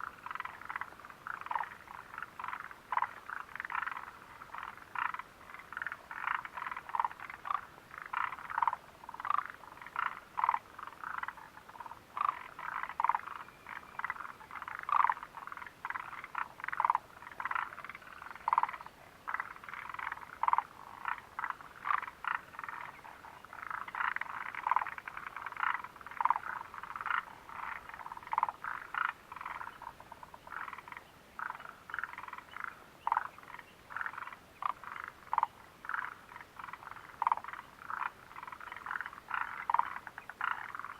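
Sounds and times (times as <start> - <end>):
frogs croaking: 0.0 - 40.9.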